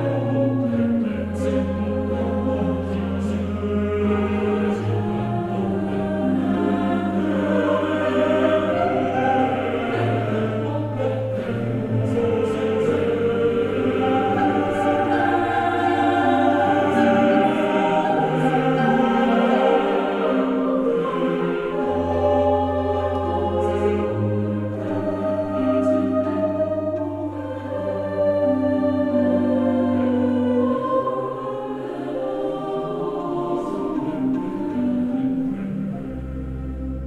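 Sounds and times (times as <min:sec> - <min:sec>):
choir singing held chords: 0:00.0 - 0:37.0.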